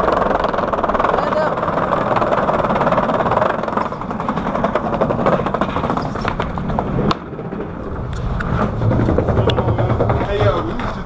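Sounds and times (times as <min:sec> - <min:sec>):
skateboard wheels rolling on wood: 0:00.0 - 0:11.0
wheels clacking over plank seams: 0:00.0 - 0:11.0.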